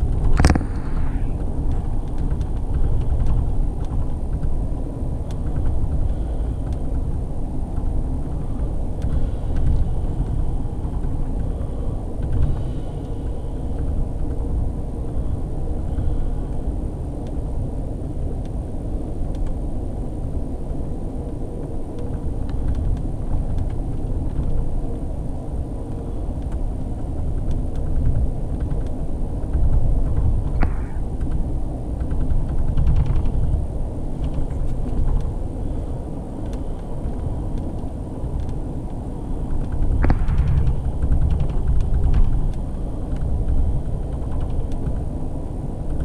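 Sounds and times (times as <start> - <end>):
train rumbling on track: 0.0 - 46.0.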